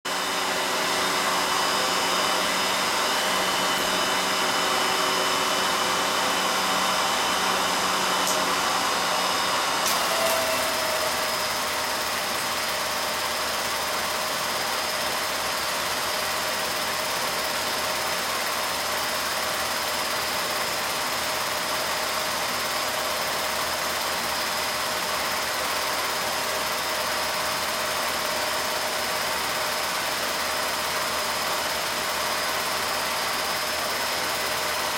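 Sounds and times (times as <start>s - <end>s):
film projector motor whir: 0.1s - 34.9s.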